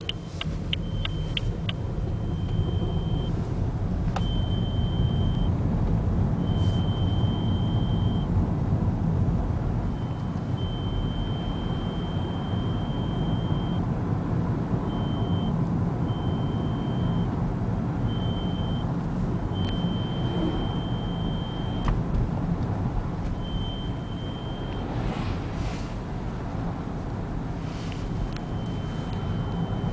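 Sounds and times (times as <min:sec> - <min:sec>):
car engine low rumble: 0:00.0 - 0:29.9.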